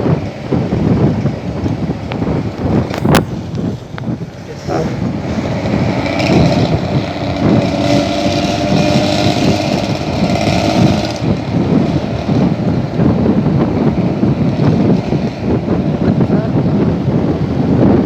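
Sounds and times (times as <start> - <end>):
engine through open exhaust: 0.0 - 18.0.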